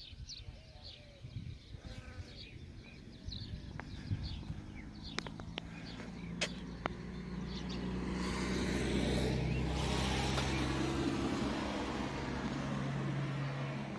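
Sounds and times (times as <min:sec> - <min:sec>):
vehicle engine humming: 0:02.5 - 0:13.9.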